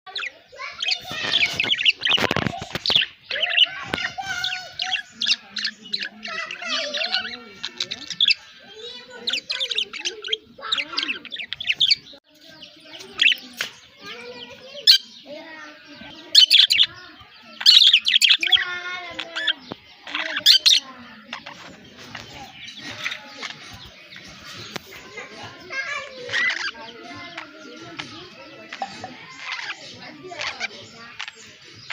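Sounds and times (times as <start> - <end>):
budgerigars chattering: 0.1 - 31.9.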